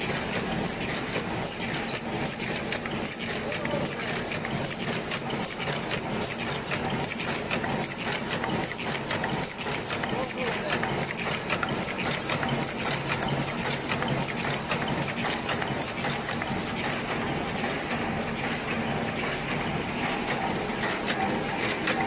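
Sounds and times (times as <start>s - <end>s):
machine clattering: 0.0s - 22.0s.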